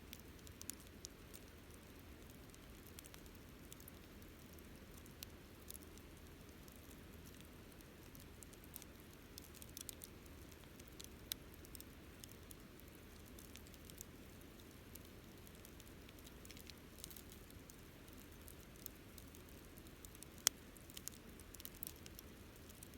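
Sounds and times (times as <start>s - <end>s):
campfire crackling: 0.1s - 22.9s.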